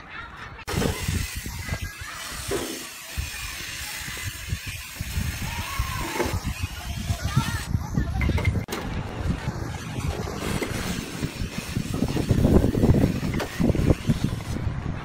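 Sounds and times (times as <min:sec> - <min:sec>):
wind buffeting microphone: 0:00.6 - 0:02.5, 0:03.1 - 0:15.0.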